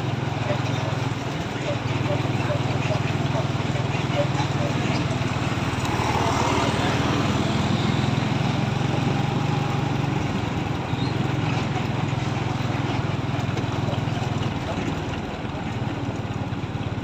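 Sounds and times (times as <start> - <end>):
truck engine droning: 0.0 - 17.0.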